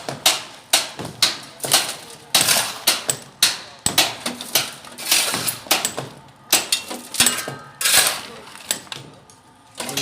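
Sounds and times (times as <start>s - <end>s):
metal tools striking masonry: 0.0s - 9.1s.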